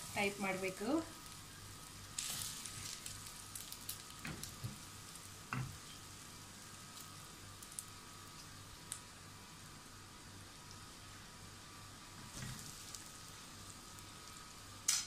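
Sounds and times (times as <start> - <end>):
oil sizzling in a frying pan: 0.0 - 15.0.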